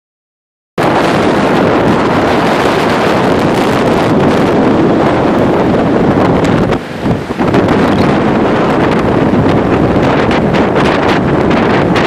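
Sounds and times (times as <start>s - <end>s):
storm waves rushing: 0.8s - 12.0s
wind buffeting microphone: 0.8s - 12.0s.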